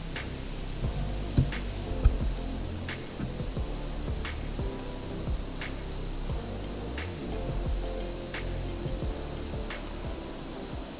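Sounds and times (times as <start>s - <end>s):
insects chirping: 0.0s - 10.9s.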